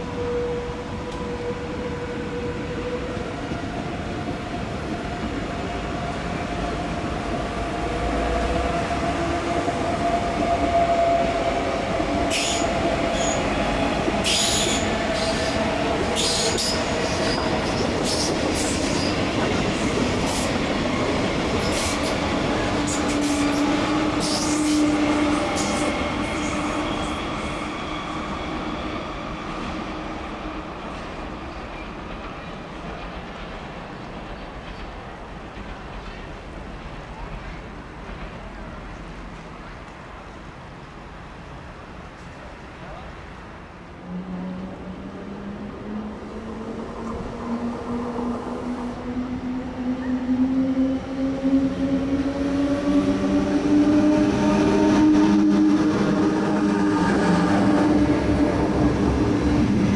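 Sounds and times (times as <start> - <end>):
electric train whining and rumbling: 0.0 - 59.9.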